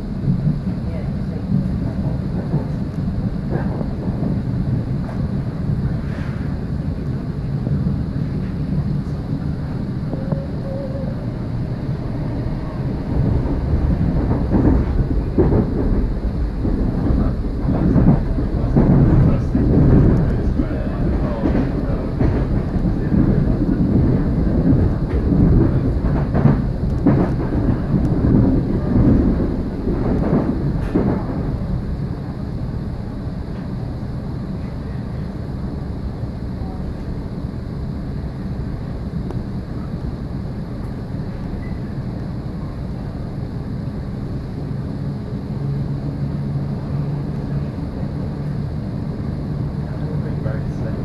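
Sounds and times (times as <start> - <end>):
steady low hum: 0.0 - 51.0
train wheels rumbling on track: 0.0 - 51.0.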